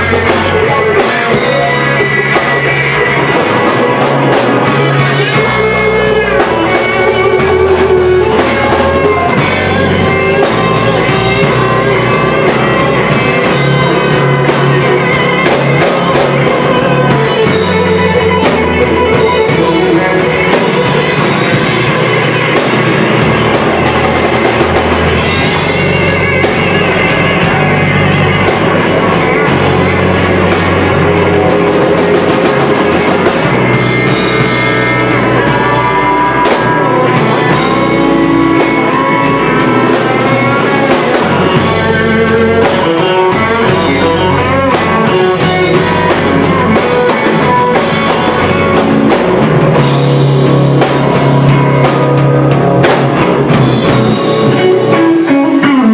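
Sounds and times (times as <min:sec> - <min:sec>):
drums and cymbals: 0:00.0 - 0:55.9
electric guitars playing blues-rock: 0:00.0 - 0:55.9
lead guitar bending notes: 0:00.0 - 0:55.9.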